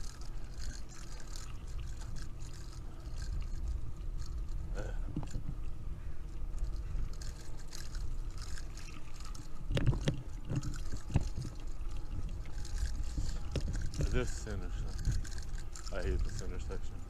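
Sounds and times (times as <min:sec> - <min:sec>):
bicycle road noise: 0:00.0 - 0:17.0
wind rumble on microphone: 0:00.0 - 0:17.0.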